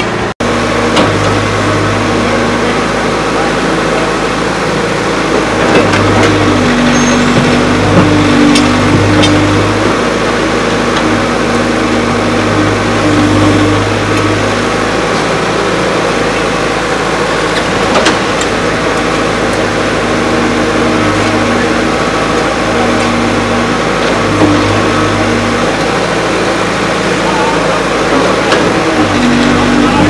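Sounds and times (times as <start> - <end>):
backhoe arm digging: 0.0 - 30.0
diesel engine running: 0.0 - 30.0.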